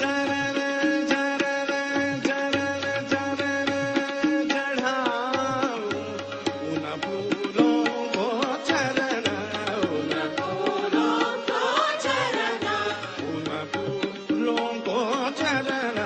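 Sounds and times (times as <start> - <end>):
tabla strokes: 0.0 - 16.0.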